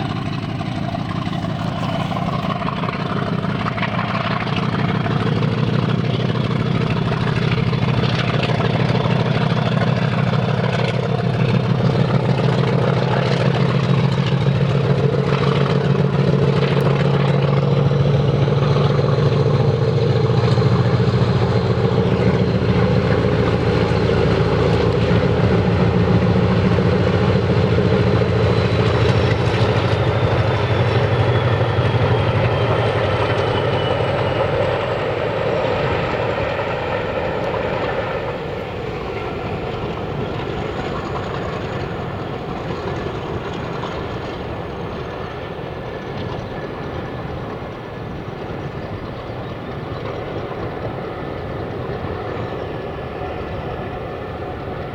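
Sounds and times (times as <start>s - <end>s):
locomotive engine rumbling: 0.0s - 54.9s.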